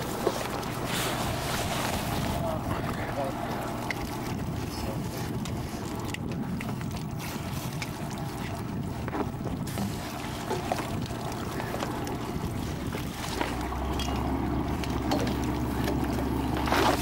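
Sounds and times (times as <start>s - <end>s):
steady low hum: 0.0s - 17.0s
water splashing and sloshing: 0.0s - 17.0s.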